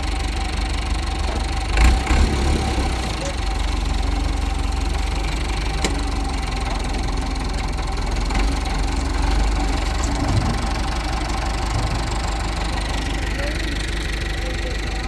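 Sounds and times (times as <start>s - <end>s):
combine harvester engine droning: 0.0s - 15.0s.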